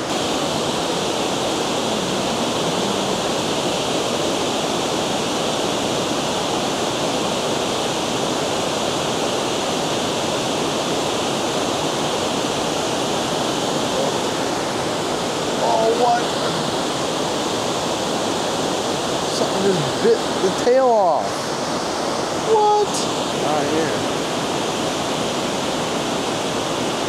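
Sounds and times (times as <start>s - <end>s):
water rushing over spillway: 0.0s - 27.0s.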